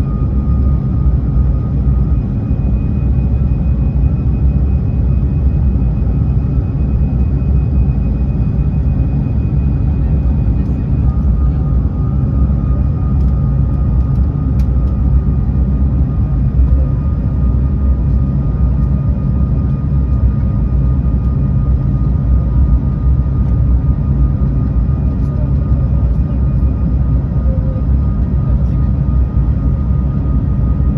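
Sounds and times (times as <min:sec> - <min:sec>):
airplane cabin rumble: 0:00.0 - 0:30.9.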